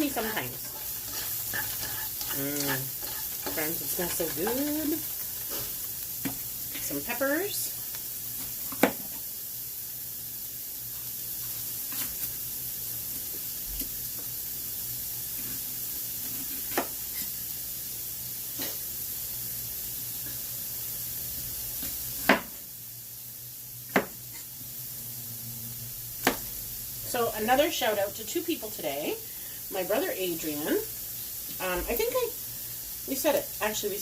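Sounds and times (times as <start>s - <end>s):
vegetables sizzling in pan: 0.0s - 34.0s.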